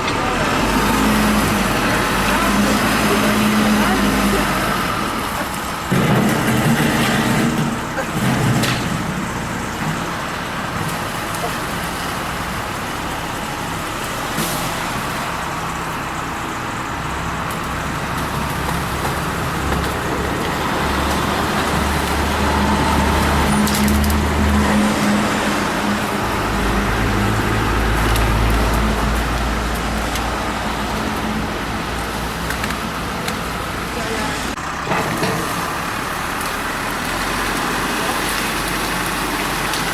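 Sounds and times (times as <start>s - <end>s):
road traffic: 0.0s - 39.9s
vehicle engines idling: 0.0s - 39.9s.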